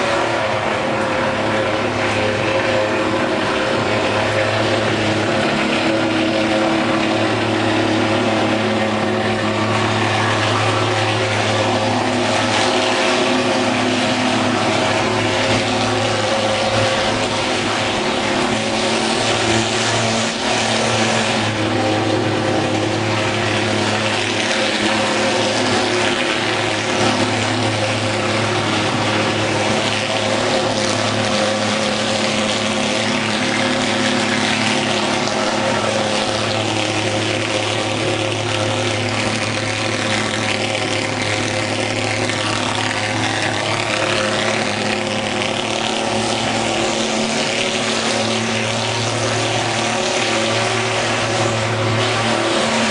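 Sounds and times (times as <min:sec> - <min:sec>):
fogging machine buzzing drone: 0:00.0 - 0:52.9.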